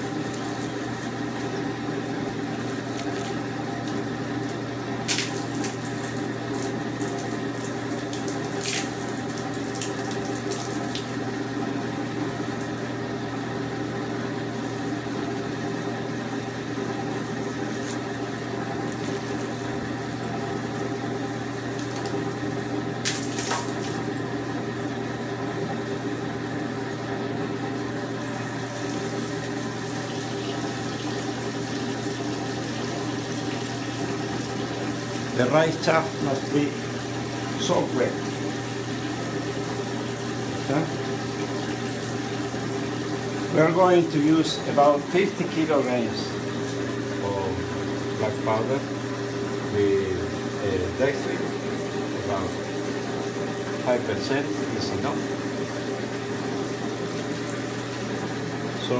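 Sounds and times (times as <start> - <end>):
hose water splashing: 0.0 - 12.8, 17.0 - 24.3, 28.3 - 58.9.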